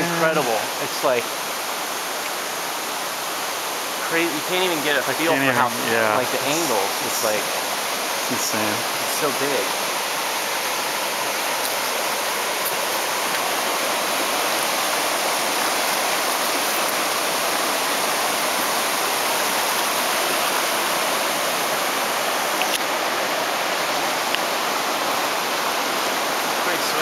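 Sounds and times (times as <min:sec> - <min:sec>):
river rapids rushing: 0:00.0 - 0:27.0.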